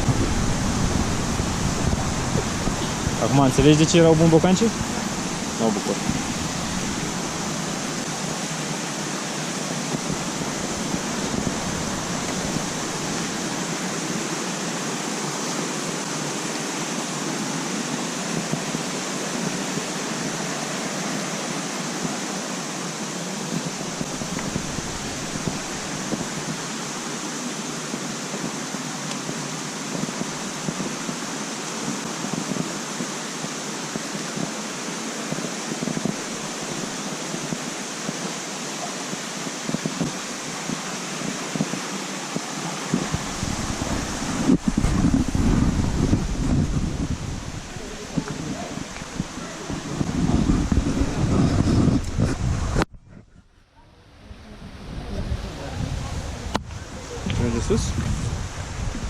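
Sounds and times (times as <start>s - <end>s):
waterfall rushing: 0.0s - 52.8s.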